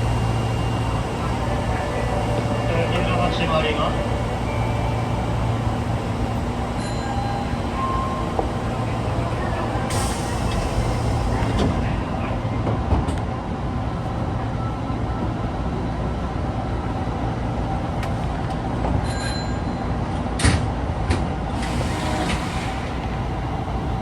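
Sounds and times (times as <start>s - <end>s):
subway car motors and wheels rumbling: 0.0s - 24.0s.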